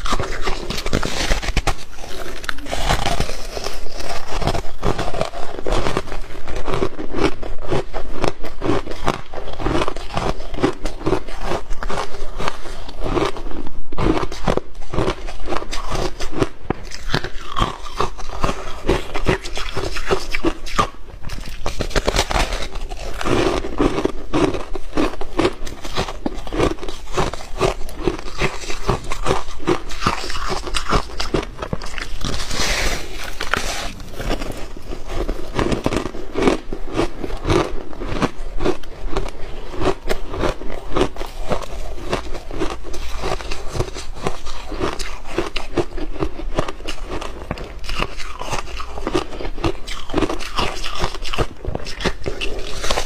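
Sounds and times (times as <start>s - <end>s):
chewing and crunching ice: 0.0s - 53.0s.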